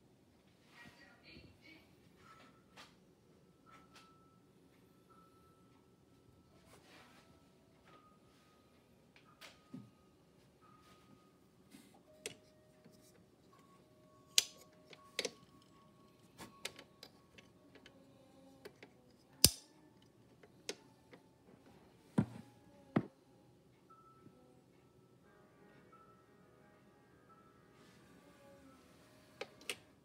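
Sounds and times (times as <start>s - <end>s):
faint steady tones: 1.1s - 30.0s.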